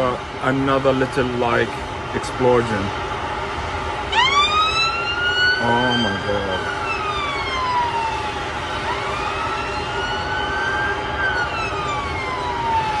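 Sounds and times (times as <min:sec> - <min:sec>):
emergency vehicle siren wailing: 0:00.0 - 0:13.0
rumble of city noise: 0:00.0 - 0:13.0.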